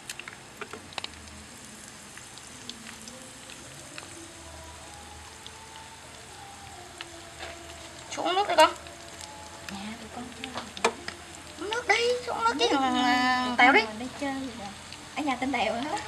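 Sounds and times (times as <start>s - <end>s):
meat frying in oil: 0.0s - 16.0s.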